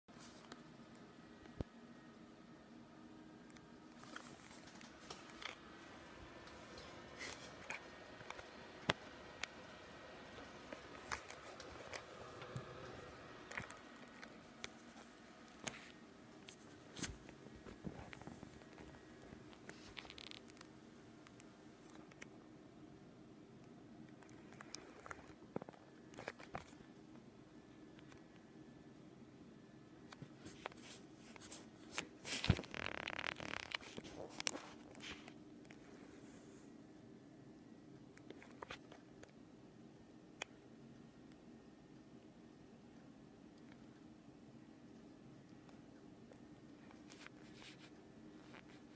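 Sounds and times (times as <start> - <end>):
computer hum and whine: 0.1 - 48.9.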